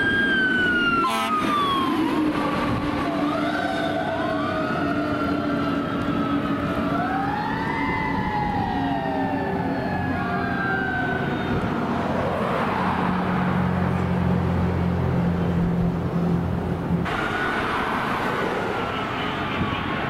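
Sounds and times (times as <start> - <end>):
fire engine siren wailing: 0.0 - 15.5, 17.0 - 20.0.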